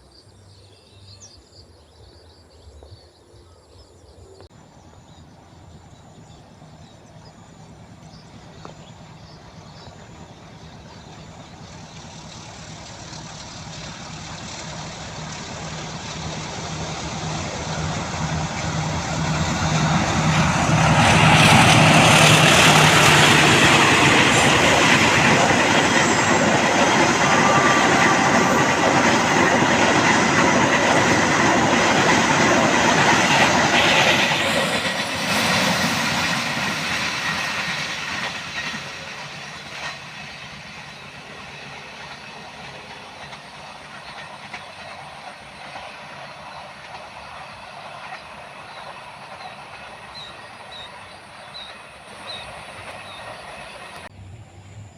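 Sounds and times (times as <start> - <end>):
train wheels squealing: 4.8 - 54.1
train wheels clattering over joints: 9.4 - 54.1.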